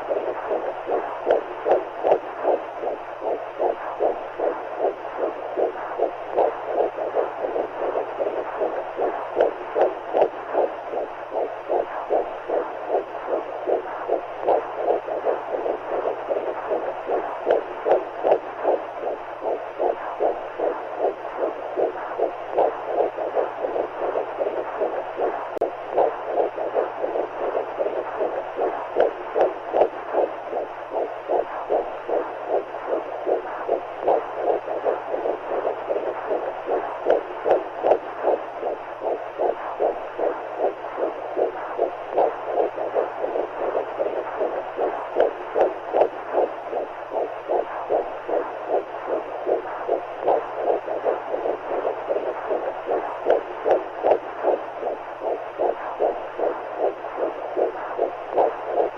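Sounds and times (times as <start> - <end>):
faint low hum: 0.0 - 58.9
heartbeat pulses: 0.0 - 58.9.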